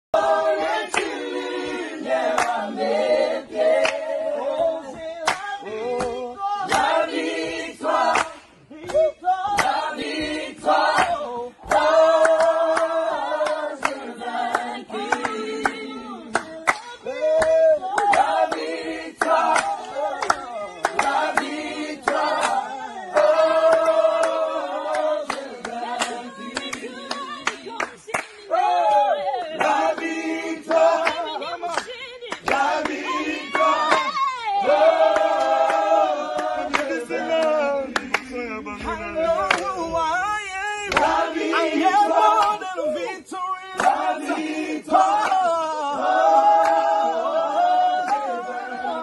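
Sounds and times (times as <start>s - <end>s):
choir singing a cappella: 0.1s - 49.0s
hand claps: 0.7s - 1.5s, 2.1s - 2.9s, 3.5s - 4.2s, 4.9s - 38.4s, 39.4s - 40.1s, 40.9s - 42.7s, 43.6s - 48.4s.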